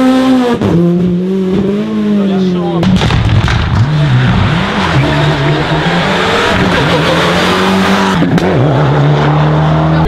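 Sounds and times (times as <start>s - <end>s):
rally car engine revving: 0.0s - 10.0s
tyres rushing on road: 0.0s - 10.0s.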